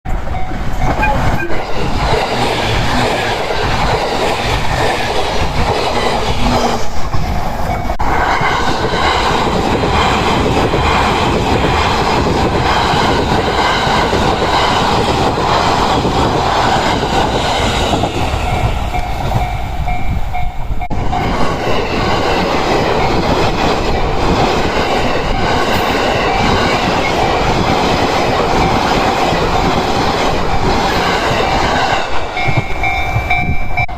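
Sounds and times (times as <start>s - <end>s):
train rumbling and rattling on rails: 0.0s - 33.9s.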